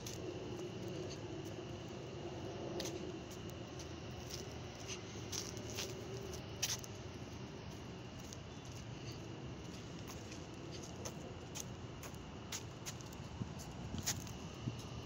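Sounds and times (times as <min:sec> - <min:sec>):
distant train rumble and hiss: 0:00.0 - 0:15.0.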